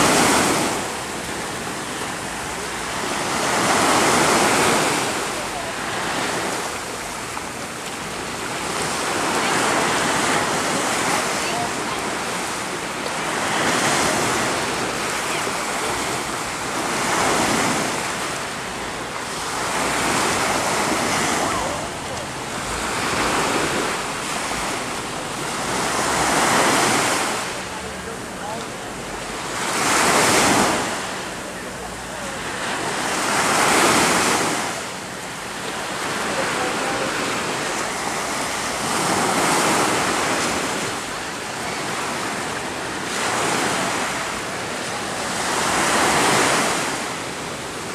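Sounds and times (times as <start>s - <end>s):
ocean surf washing ashore: 0.0s - 47.9s.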